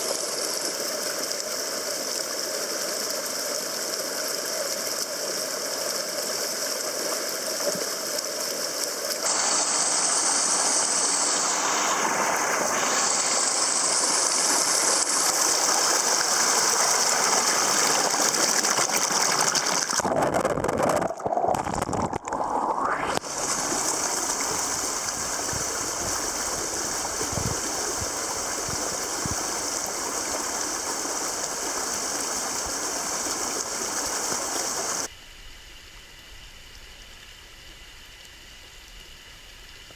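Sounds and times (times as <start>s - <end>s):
creek water rushing over rocks: 0.0s - 35.1s.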